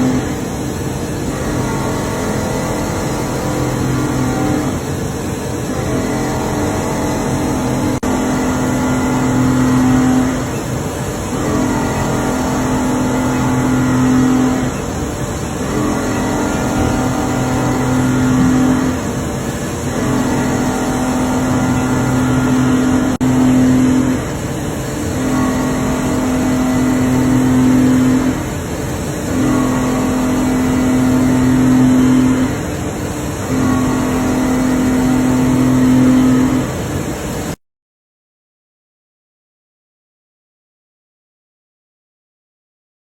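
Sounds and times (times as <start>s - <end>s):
machine motor hum: 0.0s - 37.6s.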